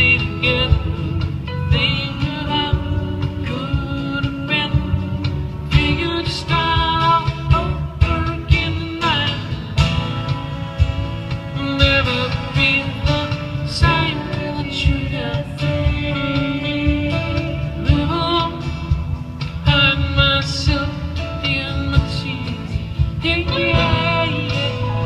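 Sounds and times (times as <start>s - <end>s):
acoustic guitar: 0.0s - 25.0s
drums: 0.0s - 25.0s
keyboard: 0.0s - 25.0s
person singing: 0.0s - 25.0s.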